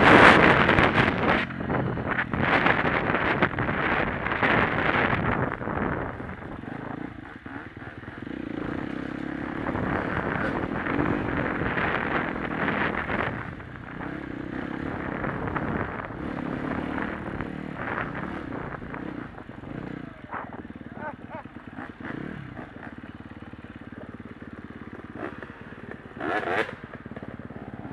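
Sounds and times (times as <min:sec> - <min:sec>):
dirt bike engine revving: 0:00.0 - 0:27.9
wind and trail noise: 0:00.0 - 0:27.9.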